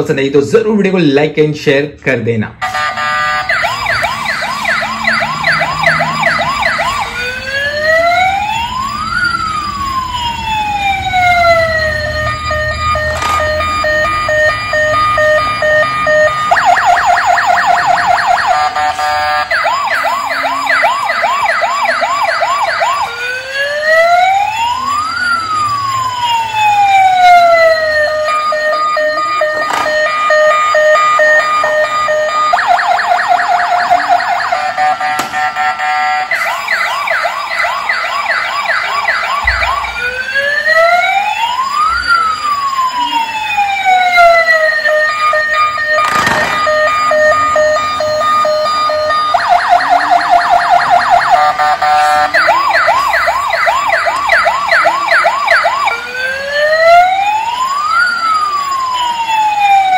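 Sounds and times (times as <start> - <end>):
toy police siren: 2.6 - 59.9.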